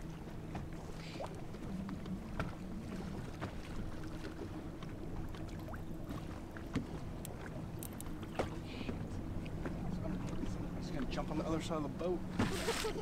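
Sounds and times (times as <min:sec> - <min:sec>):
light wind: 0:00.0 - 0:13.0
steady low hum: 0:00.0 - 0:13.0
waves lapping against boat hull: 0:00.0 - 0:13.0.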